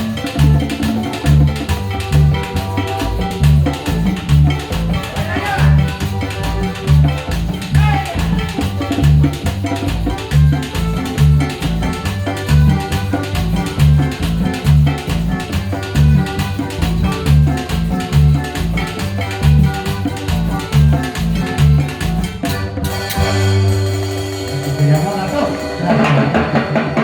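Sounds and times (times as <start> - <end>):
latin dance band music: 0.0 - 27.0.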